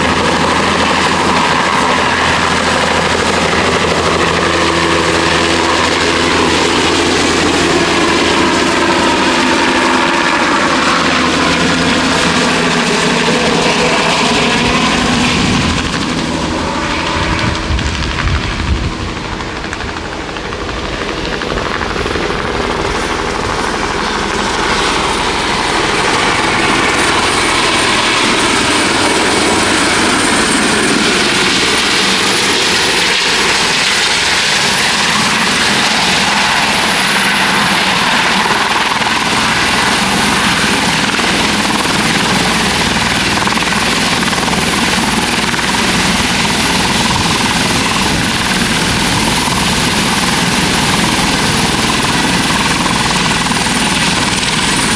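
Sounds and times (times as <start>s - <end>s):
helicopter rotor: 0.0s - 54.9s
high turbine whine: 0.0s - 54.9s.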